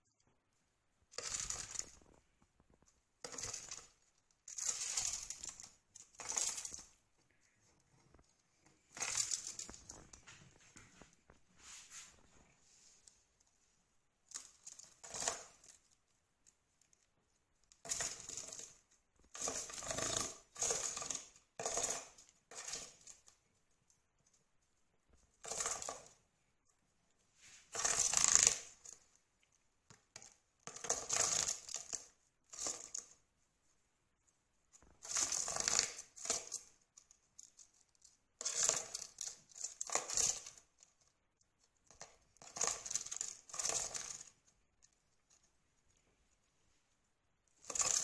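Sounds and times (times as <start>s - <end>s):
rustling and scraping: 0.0s - 48.0s.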